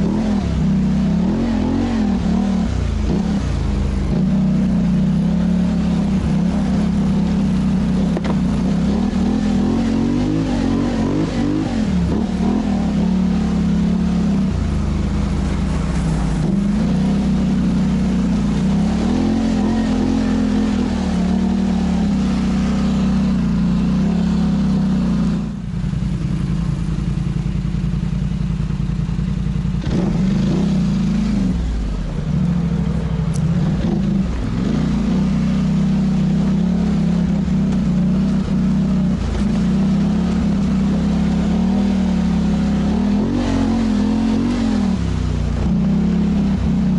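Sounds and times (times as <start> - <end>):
atv engine running: 0.0 - 46.9.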